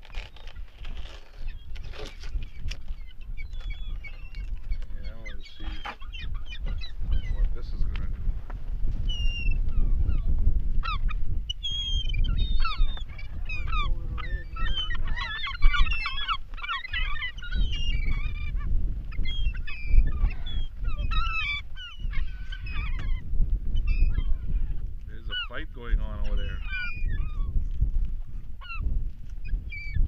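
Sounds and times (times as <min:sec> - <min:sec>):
gulls calling: 0:00.0 - 0:08.0, 0:09.1 - 0:27.6.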